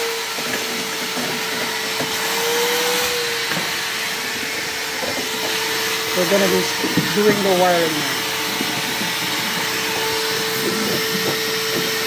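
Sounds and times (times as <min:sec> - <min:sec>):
shop vacuum running: 0:00.0 - 0:12.0.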